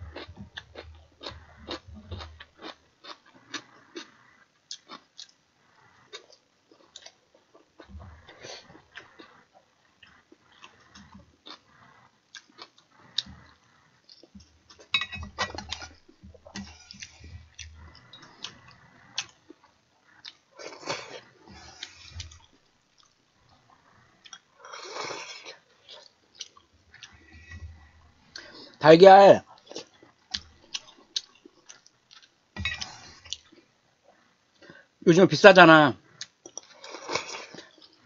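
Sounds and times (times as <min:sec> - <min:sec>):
chewing: 0:00.0 - 0:28.8, 0:29.4 - 0:35.0, 0:36.0 - 0:38.0.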